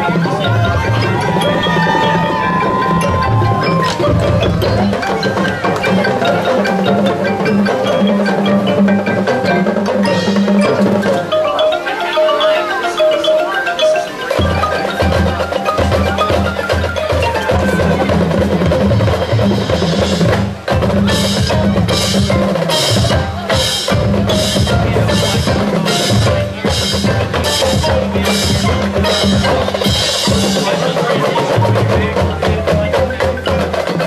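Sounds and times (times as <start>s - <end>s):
marching band playing a slow ballad: 0.0s - 34.0s
marimba and mallet percussion: 0.0s - 34.0s
steady percussion beat: 0.0s - 34.0s.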